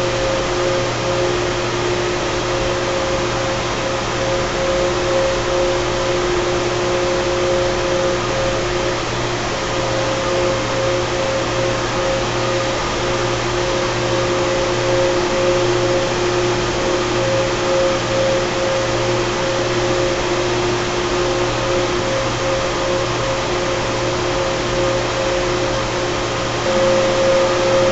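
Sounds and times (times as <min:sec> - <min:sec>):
steady humming tones: 0:00.0 - 0:27.9.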